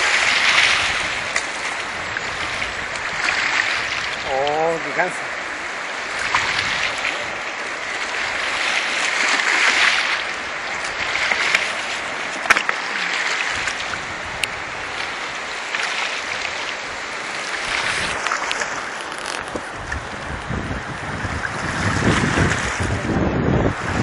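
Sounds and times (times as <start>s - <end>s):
river water rushing over stones: 0.0s - 24.0s.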